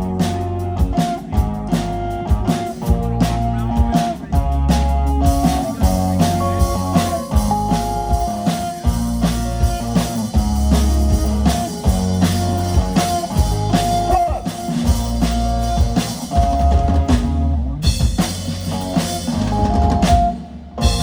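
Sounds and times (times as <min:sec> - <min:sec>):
drum kit beat: 0:00.0 - 0:21.0
guitar lines: 0:00.0 - 0:21.0
heavy bass: 0:00.0 - 0:21.0.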